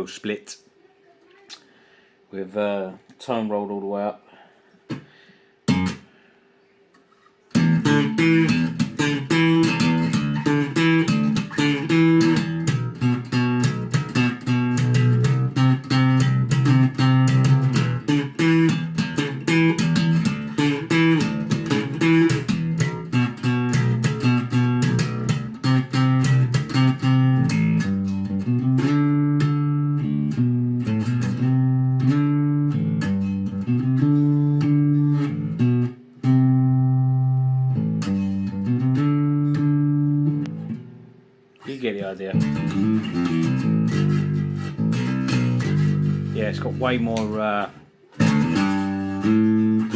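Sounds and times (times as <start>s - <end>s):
electric bass notes: 5.6s - 6.1s, 7.5s - 49.9s.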